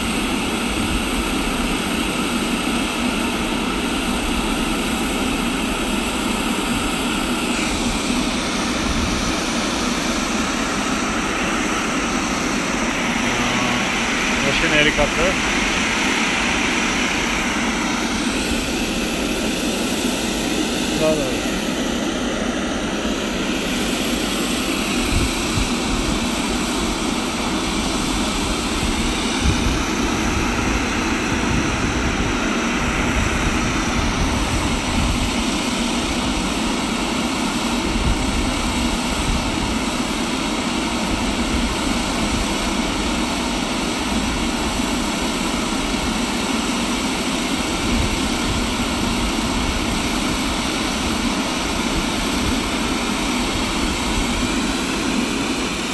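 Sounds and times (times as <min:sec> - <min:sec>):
turboprop engines idling: 0:00.0 - 0:55.9.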